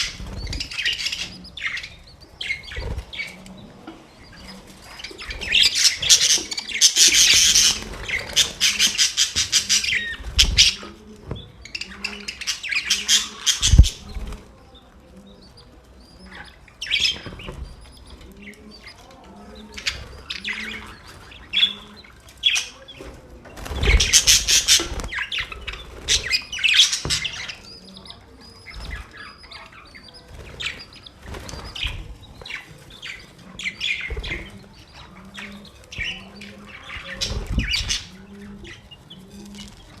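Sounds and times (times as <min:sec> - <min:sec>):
budgerigars chirping: 0:00.0 - 0:40.0.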